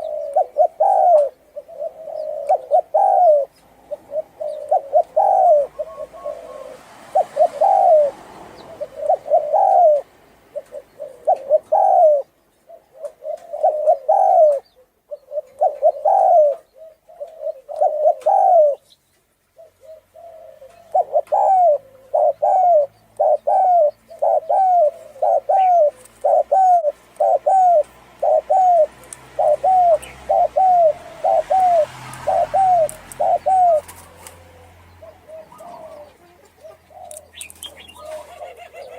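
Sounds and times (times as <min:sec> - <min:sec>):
dove cooing: 0:00.0 - 0:18.9, 0:19.5 - 0:38.9.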